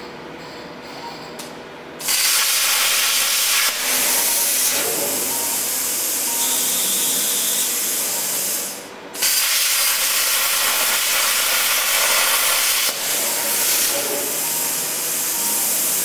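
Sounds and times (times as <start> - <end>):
plasma torch hissing: 2.0 - 16.0.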